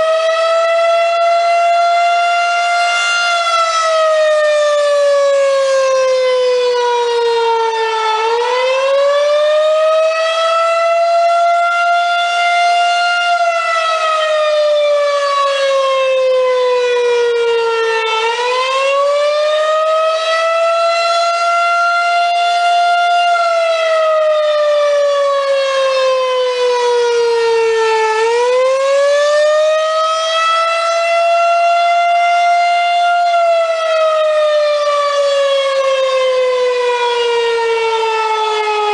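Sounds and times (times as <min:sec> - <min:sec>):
rotating warning siren wailing: 0:00.0 - 0:38.9.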